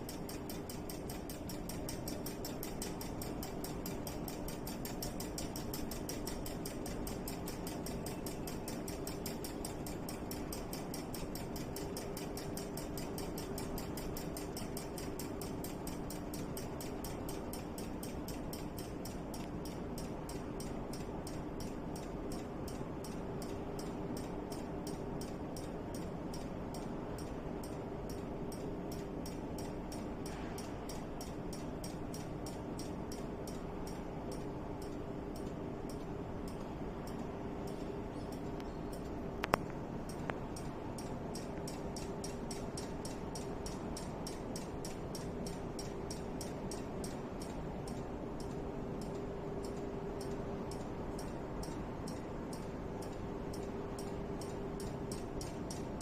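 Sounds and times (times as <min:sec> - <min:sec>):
mechanism clicking rapidly: 0:00.0 - 0:56.0
steady hum: 0:00.0 - 0:56.0.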